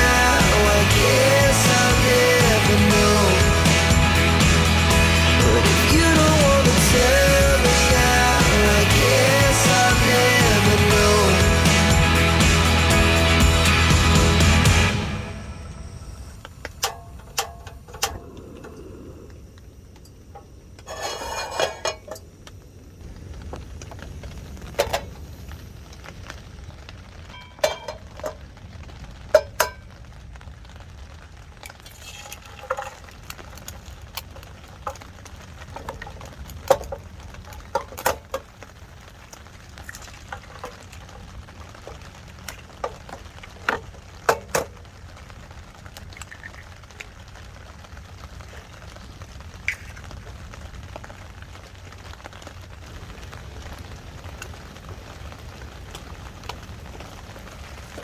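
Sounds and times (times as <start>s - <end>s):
steady low hiss: 0.0s - 58.0s.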